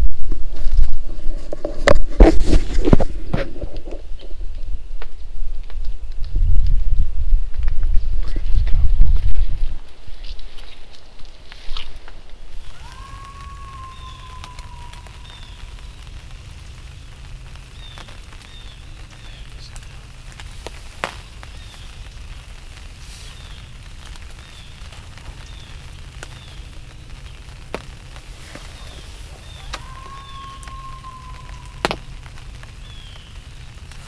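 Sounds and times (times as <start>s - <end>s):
rain on fabric: 0.0s - 34.0s.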